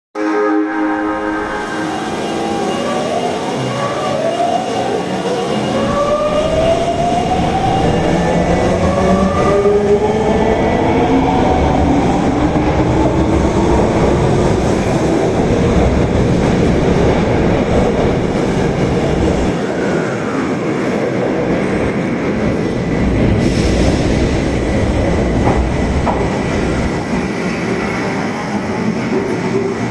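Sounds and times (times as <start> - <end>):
wheels rumbling on rail: 4.9 - 29.9.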